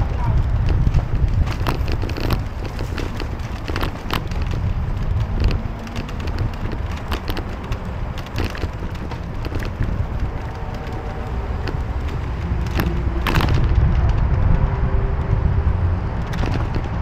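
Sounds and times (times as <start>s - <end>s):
traffic noise: 0.0s - 17.0s
wind rumbling on microphone: 0.0s - 17.0s
short clicks and rattles: 0.4s - 14.2s.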